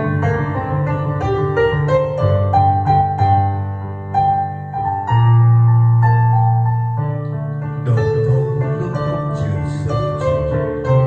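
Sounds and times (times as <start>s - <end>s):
keyboard ballad melody: 0.0s - 11.0s.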